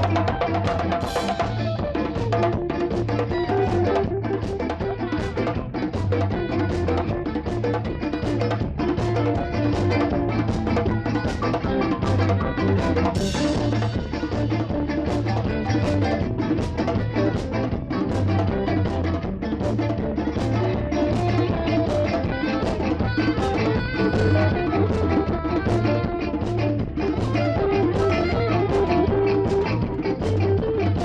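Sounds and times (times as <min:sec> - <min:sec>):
drum kit beat: 0:00.0 - 0:31.0
pulsing bass line: 0:00.0 - 0:31.0.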